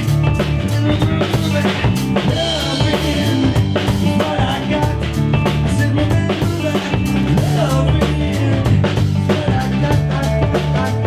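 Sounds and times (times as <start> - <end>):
drum kit beat: 0.0 - 11.0
electric guitar: 0.0 - 11.0.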